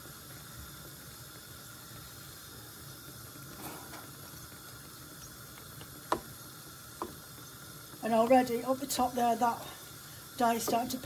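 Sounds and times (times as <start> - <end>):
faint hiss of heating water: 0.0 - 11.0.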